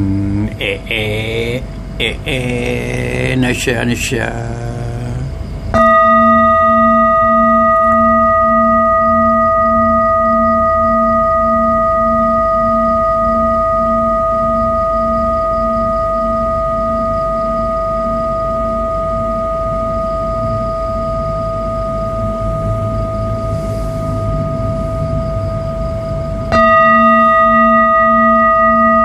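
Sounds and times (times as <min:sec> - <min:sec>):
metal singing bowl ringing: 0:05.0 - 0:29.0.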